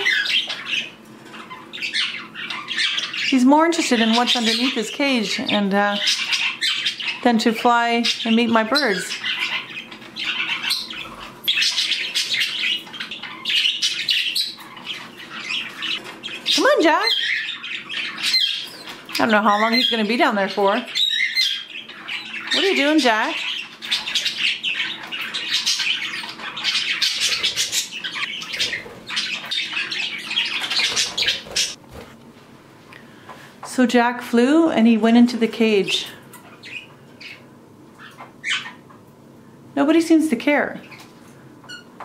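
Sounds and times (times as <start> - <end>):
budgerigars chirping and squawking: 0.0 - 31.8, 35.6 - 39.1, 40.5 - 42.0.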